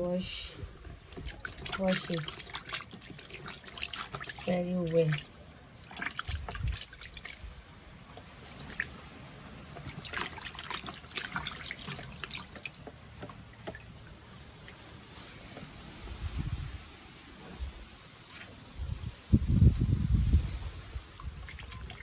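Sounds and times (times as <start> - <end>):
water trickling and splashing: 0.0 - 18.3, 19.6 - 22.0.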